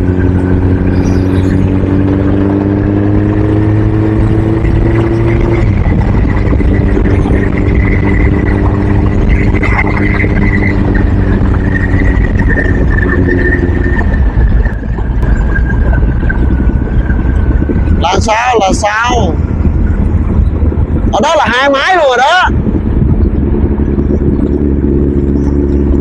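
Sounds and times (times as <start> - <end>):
high steady whine: 0.0 - 26.0
road and wind noise: 0.0 - 26.0
vehicle engine running: 0.0 - 26.0.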